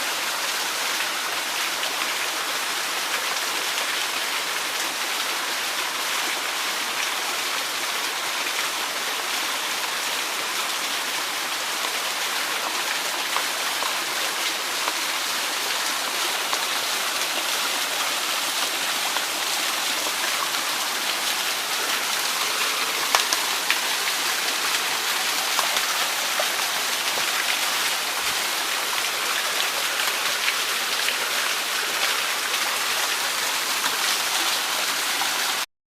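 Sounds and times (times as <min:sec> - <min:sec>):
small waterfall rushing: 0:00.0 - 0:35.7.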